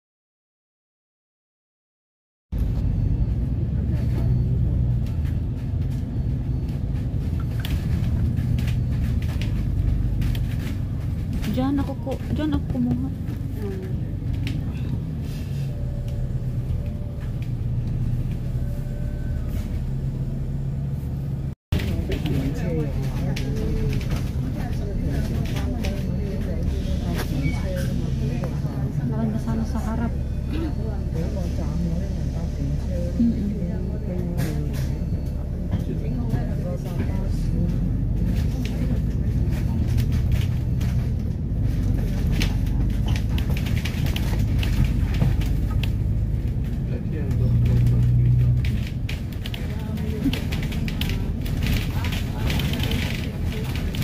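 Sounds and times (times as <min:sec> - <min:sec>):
road rumble: 0:02.5 - 0:54.0
bus engine hum: 0:02.6 - 0:54.0.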